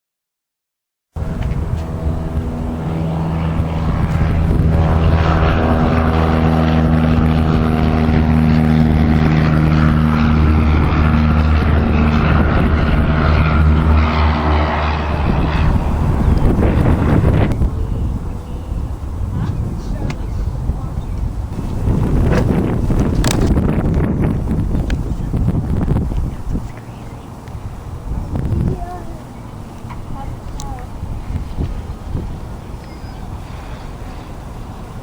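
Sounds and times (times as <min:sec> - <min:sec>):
small propeller plane droning: 0:01.2 - 0:35.0.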